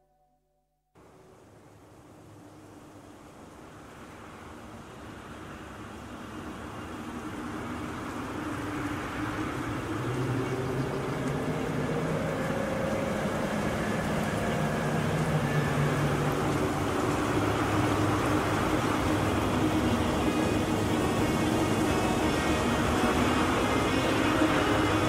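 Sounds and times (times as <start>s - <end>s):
wind noise: 3.6s - 25.0s.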